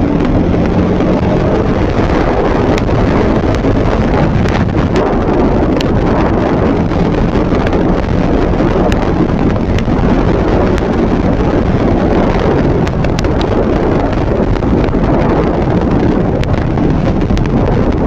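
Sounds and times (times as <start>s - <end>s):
motorcycle engine: 0.0s - 18.0s
road noise: 0.0s - 18.0s
wind rushing over microphone: 0.0s - 18.0s.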